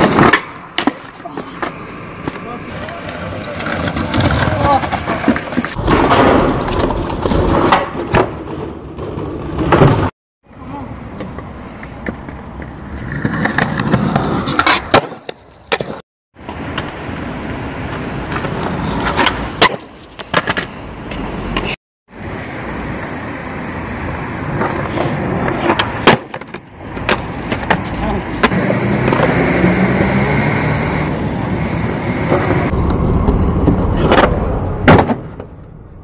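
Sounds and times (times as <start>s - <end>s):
skateboard wheels rolling on concrete: 0.0s - 36.0s.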